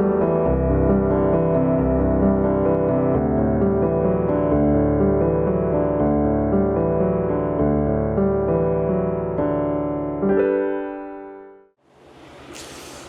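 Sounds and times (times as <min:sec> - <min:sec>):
piano chords: 0:00.0 - 0:12.3.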